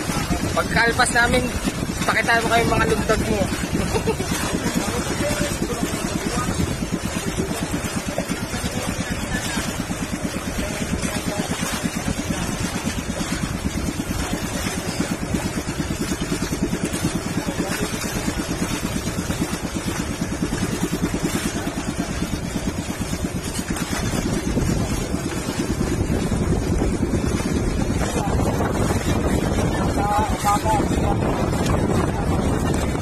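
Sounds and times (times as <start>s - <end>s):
boat engine puttering: 0.0s - 33.0s.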